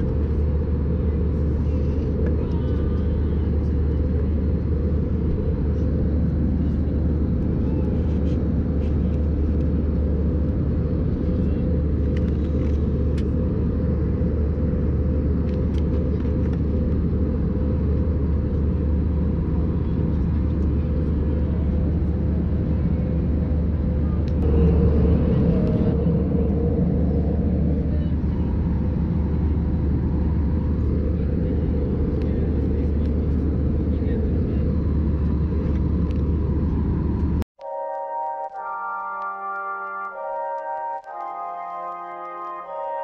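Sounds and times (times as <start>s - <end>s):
airliner cabin drone: 0.0s - 43.0s.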